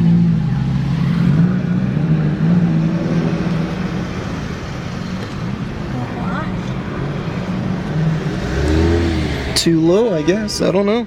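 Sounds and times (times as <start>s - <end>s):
car engine accelerating: 0.0s - 10.8s.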